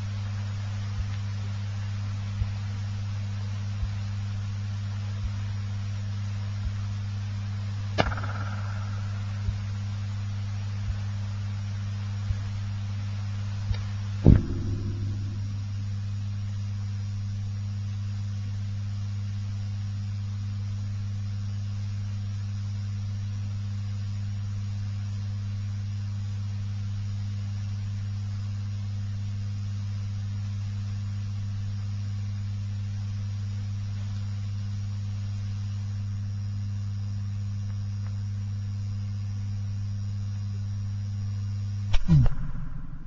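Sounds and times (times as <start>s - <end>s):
faint high whine: 0.0s - 43.0s
low electrical hum: 0.0s - 43.0s.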